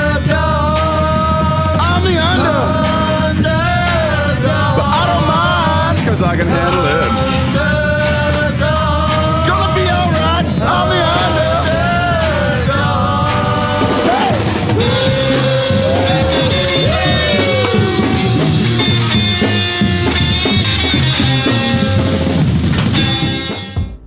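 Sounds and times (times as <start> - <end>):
instrumental rock music: 0.0 - 24.0.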